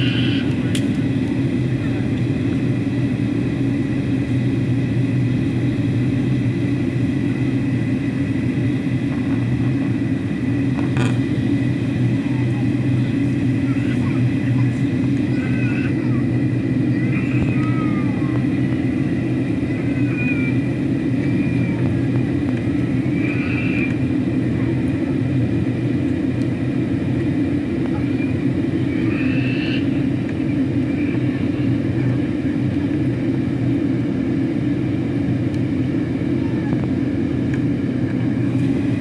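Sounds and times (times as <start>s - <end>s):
jet engine drone: 0.0s - 39.0s.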